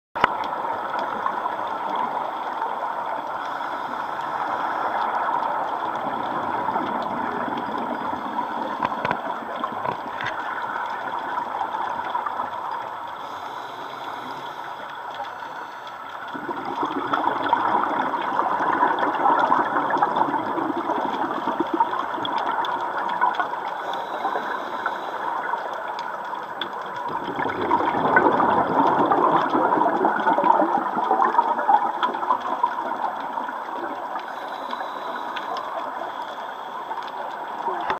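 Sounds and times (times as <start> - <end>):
underwater crackling rushing wash: 0.2 - 37.9.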